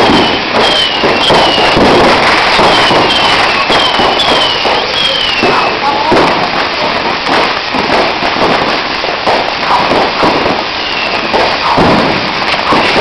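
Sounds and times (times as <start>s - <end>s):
firework spraying sparks: 0.0s - 13.0s.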